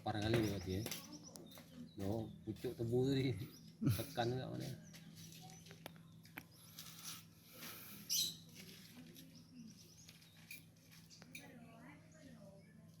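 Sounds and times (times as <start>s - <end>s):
bird chirps and calls: 0.2s - 12.8s.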